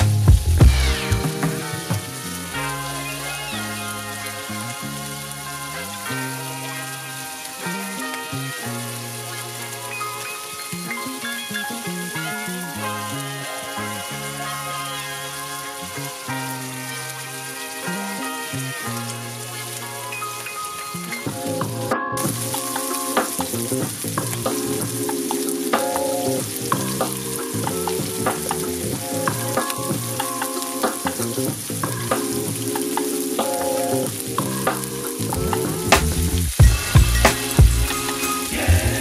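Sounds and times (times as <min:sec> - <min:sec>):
shrimp sizzling in oil: 0:00.0 - 0:39.0
soft background music: 0:00.0 - 0:39.0.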